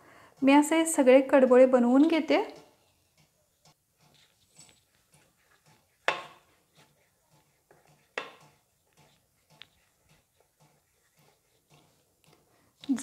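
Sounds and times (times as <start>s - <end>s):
hands rubbing dough: 0.4s - 13.0s.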